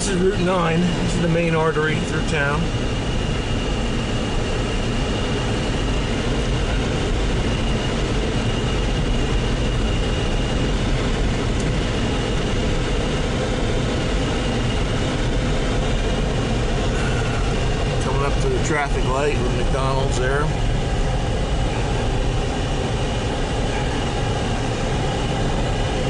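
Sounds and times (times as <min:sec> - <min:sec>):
car engine and road noise: 0:00.0 - 0:26.0
car heater fan blowing air: 0:00.0 - 0:26.0.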